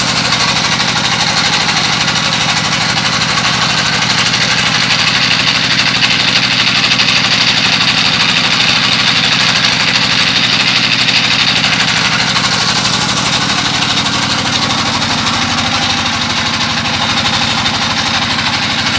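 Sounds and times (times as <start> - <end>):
boat engine running: 0.0 - 18.9.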